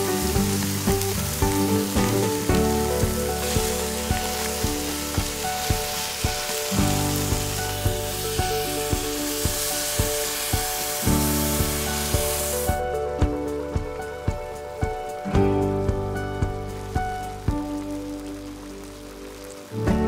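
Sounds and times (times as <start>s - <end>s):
background music with steady beat: 0.0s - 18.8s
food sizzling in hot pot: 0.0s - 20.0s.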